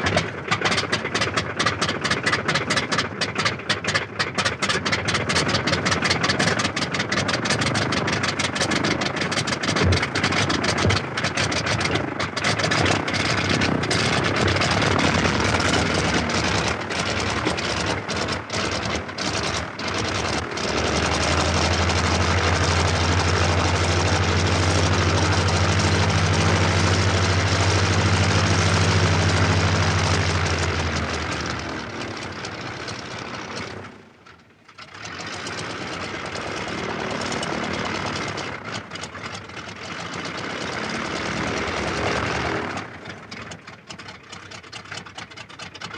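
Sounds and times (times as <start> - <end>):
aircraft engine idling unevenly: 0.0 - 45.9.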